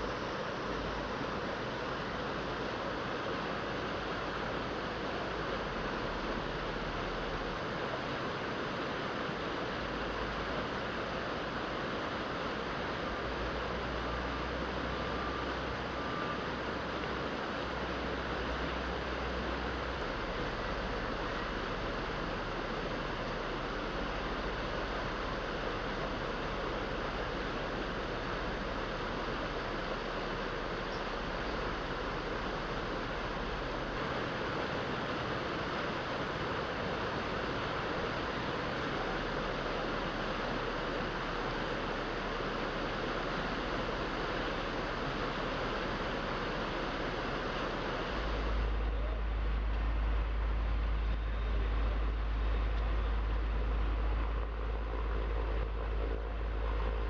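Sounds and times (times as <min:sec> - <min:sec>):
fast-flowing water rushing: 0:00.0 - 0:57.0.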